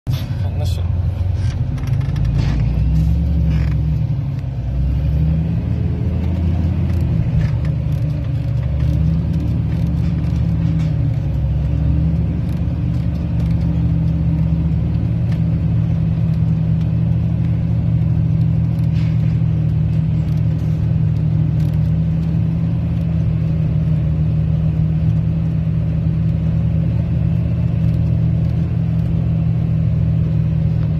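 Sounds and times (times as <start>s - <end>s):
tractor engine under load: 0.1s - 30.9s.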